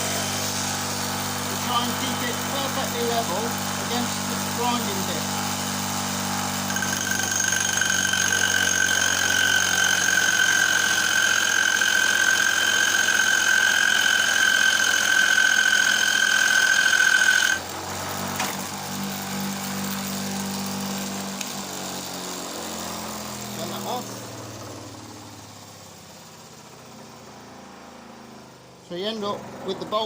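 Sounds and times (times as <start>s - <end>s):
electric drill high whine: 0.0s - 24.2s
grinding machine humming: 0.0s - 30.0s.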